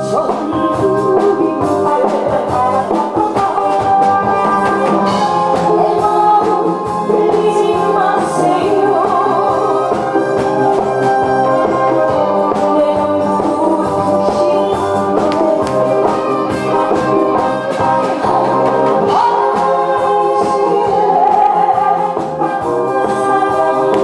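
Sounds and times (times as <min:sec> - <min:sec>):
amplified instrumental music with beat: 0:00.0 - 0:24.0
woman singing into a microphone: 0:00.0 - 0:24.0.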